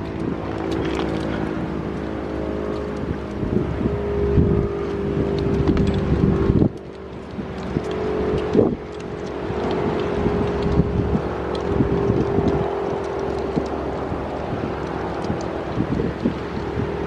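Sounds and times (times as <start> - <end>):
warning siren steady tone: 0.0 - 17.0
wind rumbling on microphone: 0.0 - 17.0.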